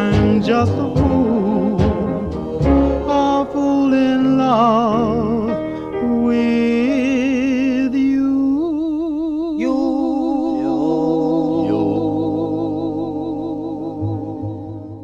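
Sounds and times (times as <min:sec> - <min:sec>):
slow vocal music with vibrato: 0:00.0 - 0:15.0.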